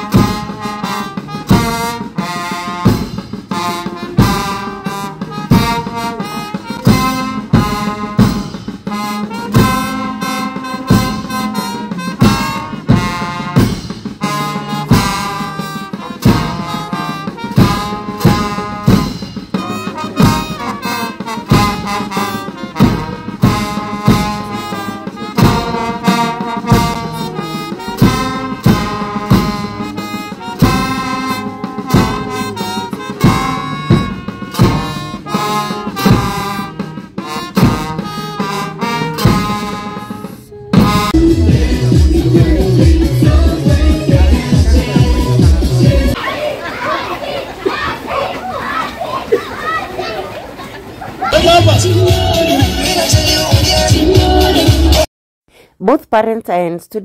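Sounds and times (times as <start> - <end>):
reedy melody: 0.0 - 46.2, 51.4 - 55.1
drum beat: 0.0 - 50.3, 51.3 - 55.1.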